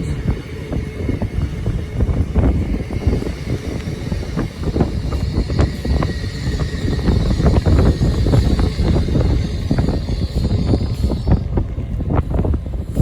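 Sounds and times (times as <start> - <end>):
idling train engines rumble: 0.0 - 13.0
wind buffeting microphone: 0.0 - 13.0.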